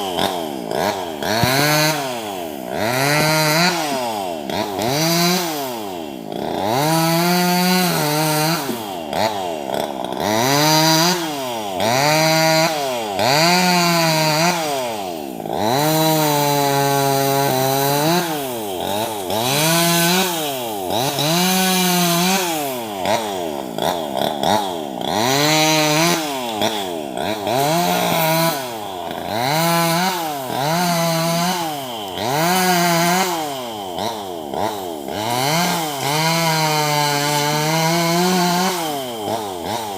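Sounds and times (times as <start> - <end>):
chainsaw cutting branches: 0.0 - 39.9.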